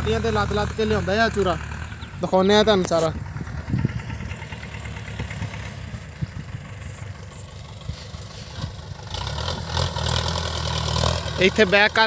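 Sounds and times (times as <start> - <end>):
tractor diesel engine: 0.0 - 12.0.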